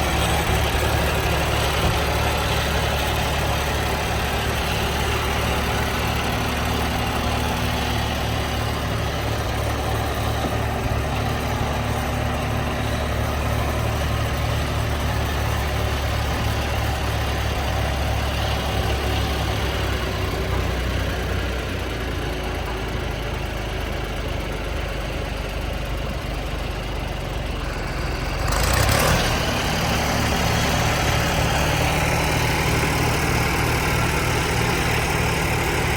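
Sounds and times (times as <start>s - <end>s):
tractor engine idling: 0.0s - 35.9s.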